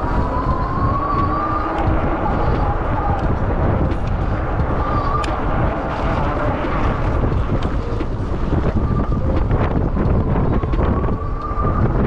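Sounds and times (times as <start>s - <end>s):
bicycle tyre and road noise: 0.0s - 12.0s
wind buffeting microphone: 0.0s - 12.0s
light clicks: 0.5s - 11.7s.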